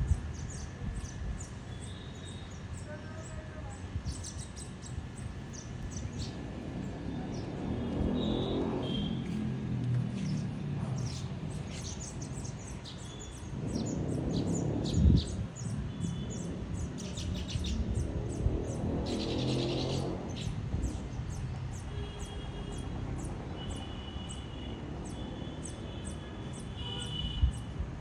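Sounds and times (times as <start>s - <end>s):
small birds chirping: 0.0s - 27.8s.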